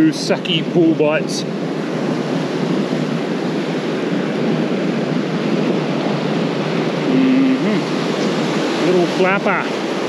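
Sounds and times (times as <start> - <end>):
surf breaking on sand: 0.0 - 10.0
wind buffeting microphone: 0.0 - 10.0.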